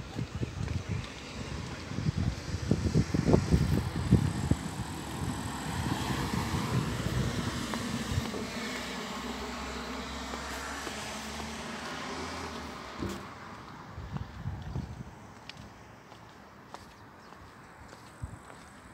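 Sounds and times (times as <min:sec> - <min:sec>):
wind buffeting microphone: 0:00.0 - 0:12.0, 0:13.0 - 0:15.8, 0:17.2 - 0:18.7
car passing: 0:01.0 - 0:16.7.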